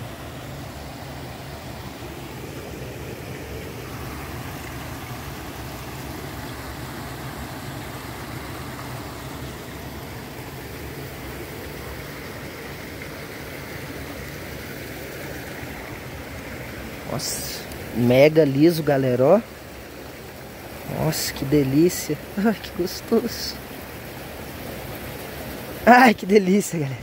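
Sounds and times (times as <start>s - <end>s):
steady outdoor rushing noise: 0.0s - 27.0s.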